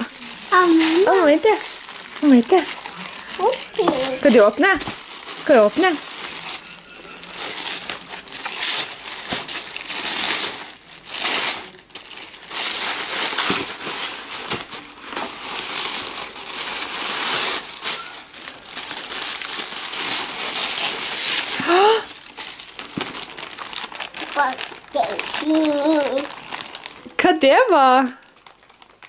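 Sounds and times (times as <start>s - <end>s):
plastic bag and paper crinkling: 0.0s - 29.0s.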